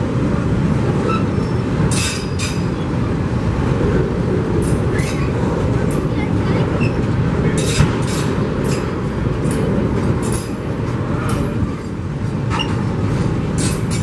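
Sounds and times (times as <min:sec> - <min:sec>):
train rumbling past: 0:00.0 - 0:14.0
sharp clicks of train: 0:00.4 - 0:14.0.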